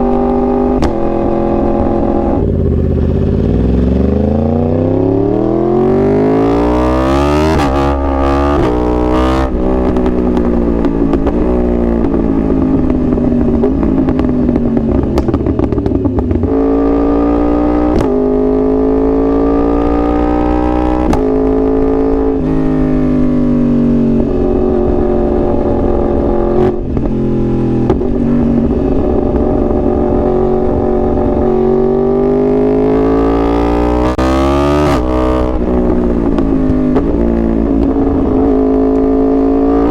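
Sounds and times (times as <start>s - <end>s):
motorcycle engine at full throttle: 0.0s - 39.9s.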